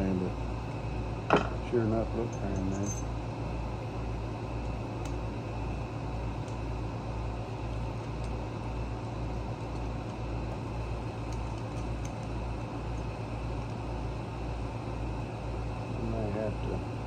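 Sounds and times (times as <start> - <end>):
machine hum with low throb: 0.0 - 17.0.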